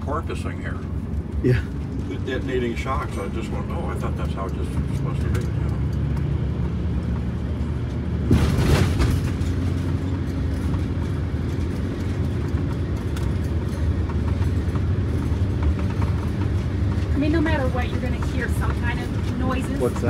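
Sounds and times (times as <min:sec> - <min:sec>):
engine and road noise in cab: 0:00.0 - 0:20.0.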